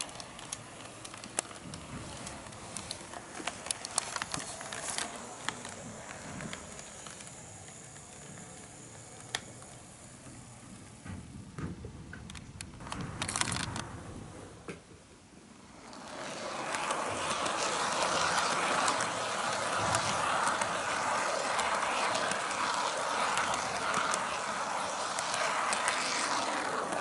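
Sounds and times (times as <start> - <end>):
model train wheels clattering on rails: 0.0 - 15.1, 15.8 - 27.0.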